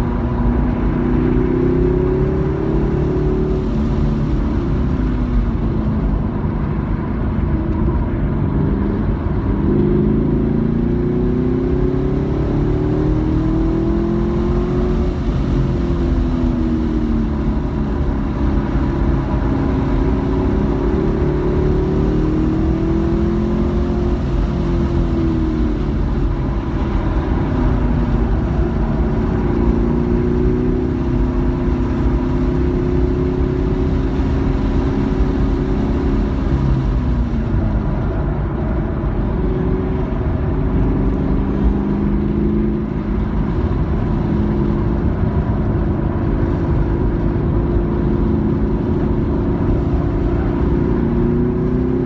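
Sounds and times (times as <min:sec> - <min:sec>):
car engine accelerating: 0:00.0 - 0:52.0
road and wind noise: 0:00.0 - 0:52.0.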